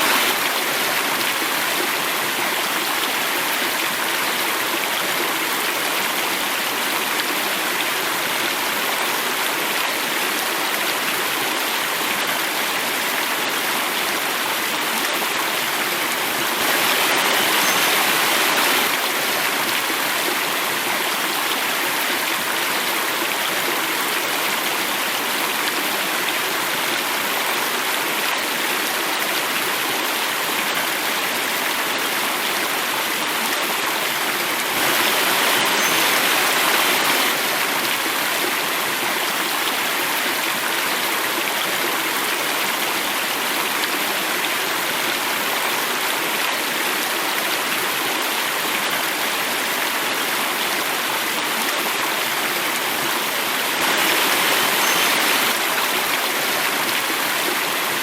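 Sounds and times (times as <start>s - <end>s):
water rushing over a small cascade: 0.0s - 58.0s.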